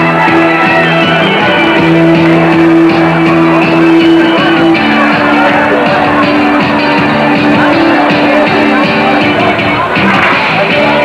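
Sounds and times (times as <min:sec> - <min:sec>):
loud rock music: 0:00.0 - 0:11.0.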